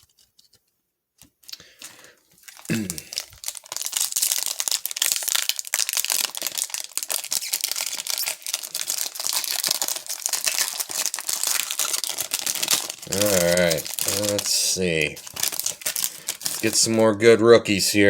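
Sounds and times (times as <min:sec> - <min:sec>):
plastic wrapper crinkling and tearing: 0:00.0 - 0:17.1.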